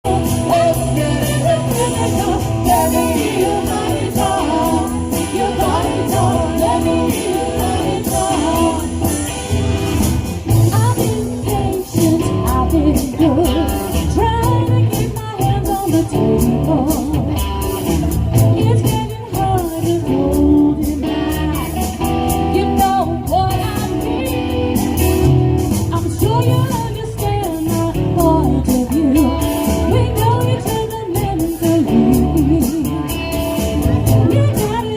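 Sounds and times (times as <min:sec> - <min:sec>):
bass: 0:00.0 - 0:34.9
electric guitar: 0:00.0 - 0:34.9
live band playing pop-rock: 0:00.0 - 0:34.9
steady drum beat: 0:00.0 - 0:34.9
woman singing lead: 0:00.0 - 0:34.9.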